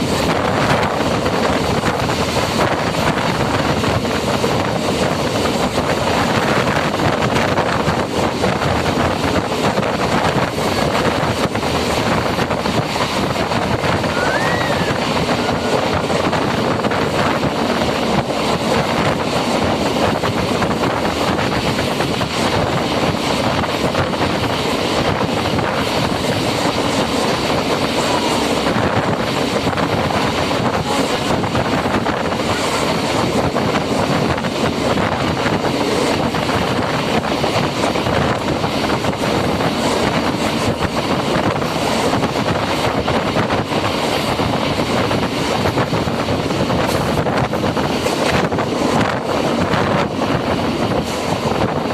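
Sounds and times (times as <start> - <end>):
electric train rumbling: 0.0 - 51.9
wind buffeting microphone: 0.0 - 51.9.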